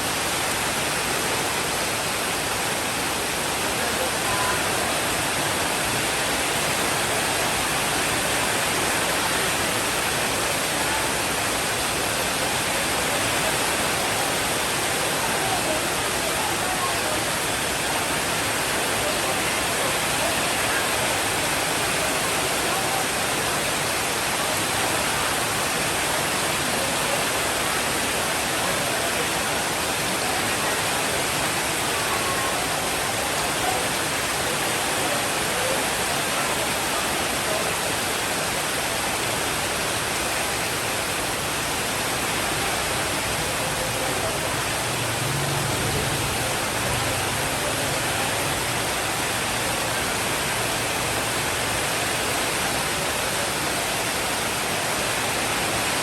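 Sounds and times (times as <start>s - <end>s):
heavy rainfall: 0.0s - 56.0s.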